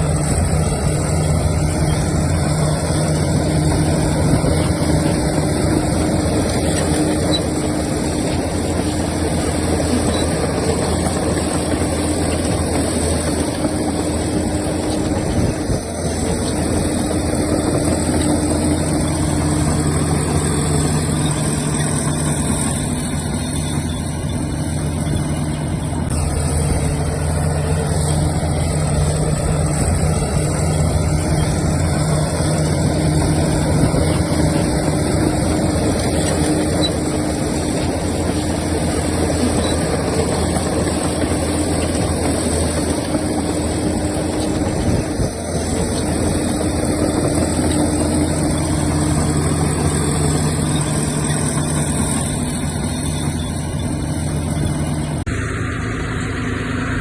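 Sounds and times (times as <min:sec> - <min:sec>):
earthmoving machinery diesel engines: 0:00.0 - 0:57.0.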